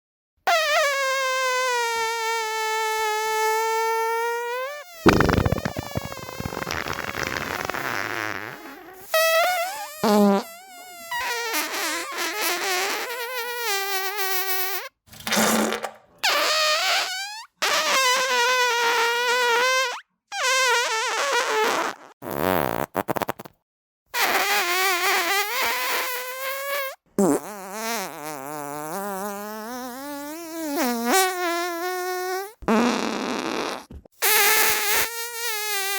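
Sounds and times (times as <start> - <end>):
farts: 0.5 - 23.6, 24.2 - 35.9.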